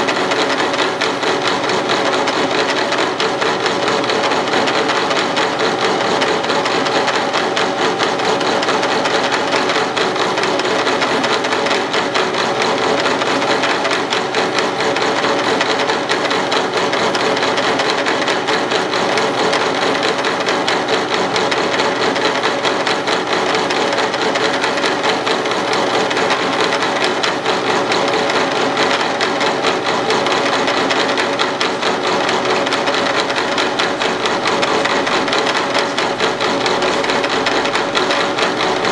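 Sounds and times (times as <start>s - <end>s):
milling machine clattering: 0.0s - 38.9s.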